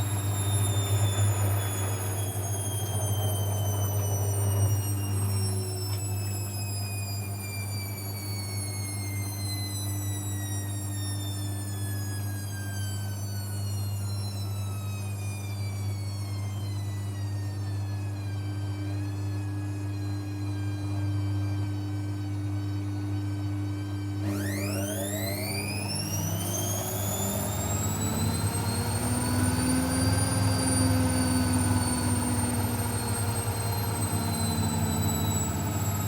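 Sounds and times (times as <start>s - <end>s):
washing machine motor whine: 0.0s - 36.0s.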